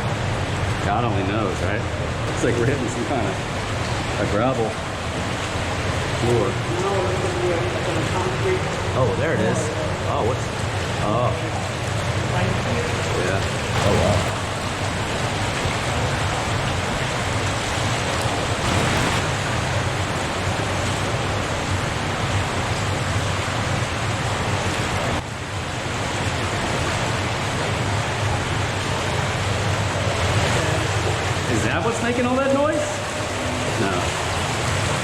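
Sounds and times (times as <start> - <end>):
water rushing in a tunnel: 0.0 - 35.0.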